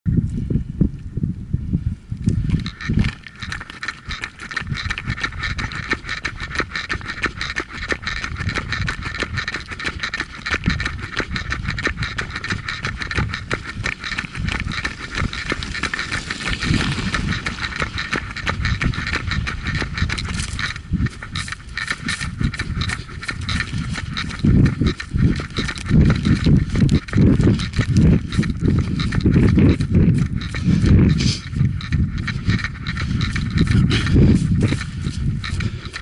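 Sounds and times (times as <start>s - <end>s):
wind rumble on microphone: 0.0s - 36.0s
running footsteps on asphalt: 2.2s - 36.0s.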